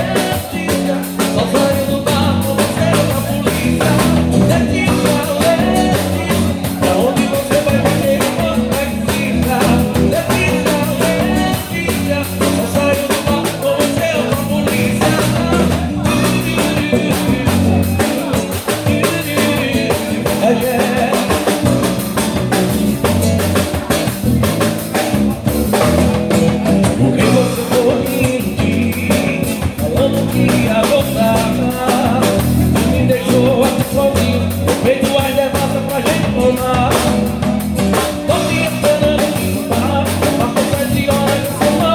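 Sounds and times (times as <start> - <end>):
bass guitar: 0.0 - 41.9
drum kit beat: 0.0 - 41.9
person singing: 0.0 - 41.9.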